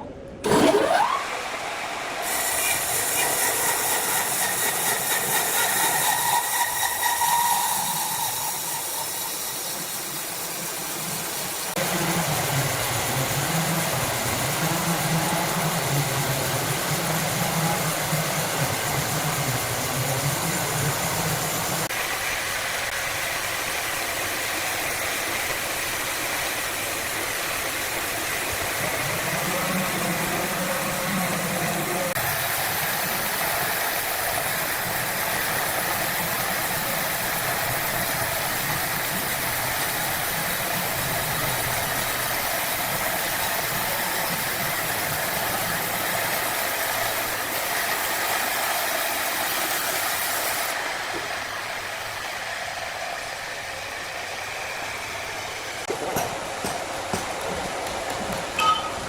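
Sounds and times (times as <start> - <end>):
wood-cutting saw machinery: 0.4 - 59.0.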